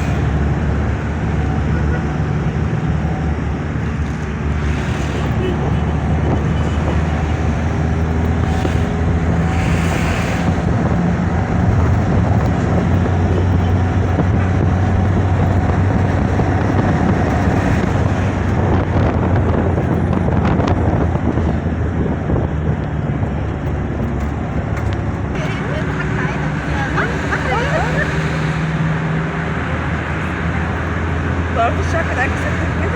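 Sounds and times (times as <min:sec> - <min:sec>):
vehicle engine and road noise: 0:00.0 - 0:32.9
wind buffeting microphone: 0:00.0 - 0:32.9.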